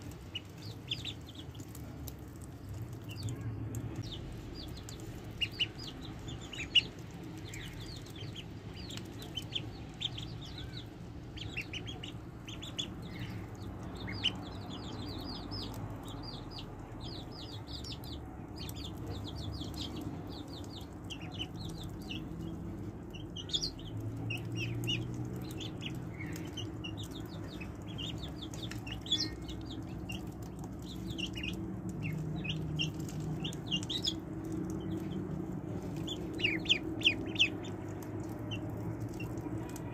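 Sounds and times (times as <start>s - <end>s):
bills pecking at food: 0.0s - 39.9s
ducklings peeping: 0.0s - 39.9s.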